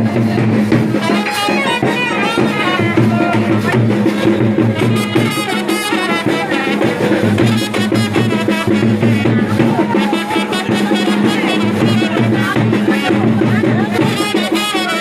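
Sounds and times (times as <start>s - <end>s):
quick drum beat: 0.0s - 15.0s.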